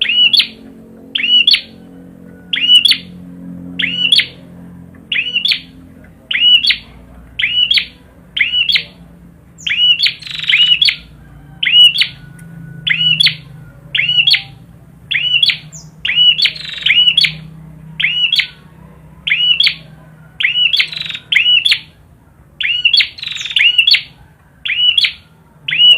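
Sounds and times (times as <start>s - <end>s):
songbird chirping: 0.0s - 25.9s.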